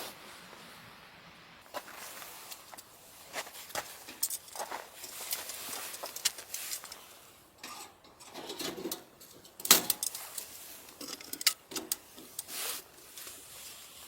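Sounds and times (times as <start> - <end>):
rustling: 1.6 - 14.0
camping gear clattering: 1.7 - 14.0.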